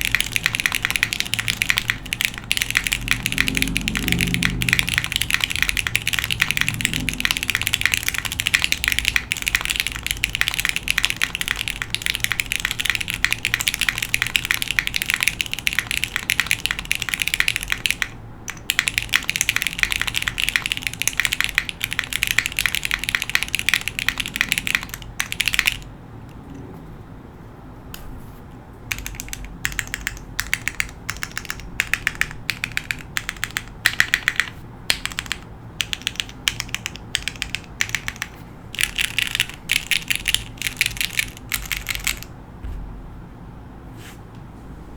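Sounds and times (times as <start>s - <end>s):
fast mechanical keyboard typing: 0.0s - 25.9s, 28.9s - 42.4s.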